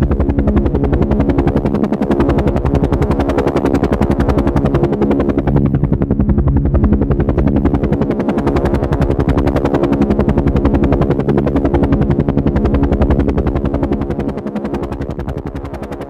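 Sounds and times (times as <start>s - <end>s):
helicopter rotors thumping: 0.0s - 16.0s
steady hum: 0.0s - 16.0s.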